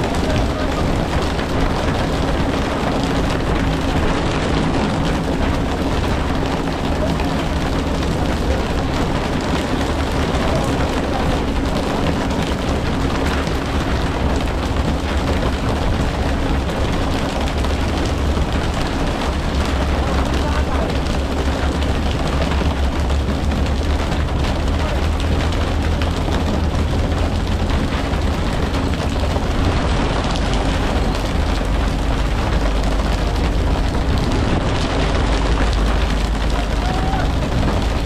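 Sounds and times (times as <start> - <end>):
boat engine drone: 0.0 - 38.0
rushing water and spray: 0.0 - 38.0.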